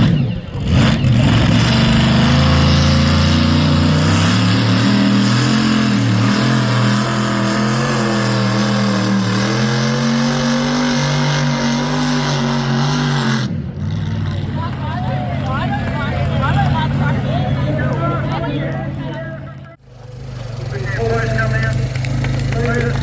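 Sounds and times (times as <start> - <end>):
tractor engine running loud: 0.0 - 23.0.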